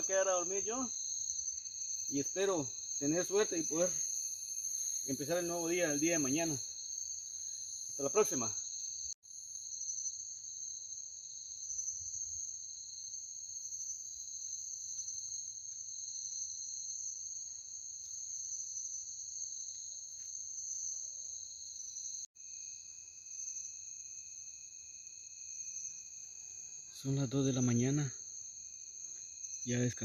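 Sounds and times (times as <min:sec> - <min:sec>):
night insects trilling: 0:00.0 - 0:30.0.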